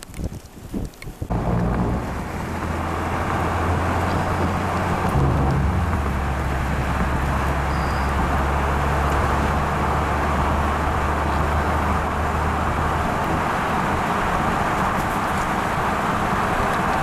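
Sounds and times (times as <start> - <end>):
road and wind noise: 0.0 - 17.0
low engine hum: 1.2 - 17.0.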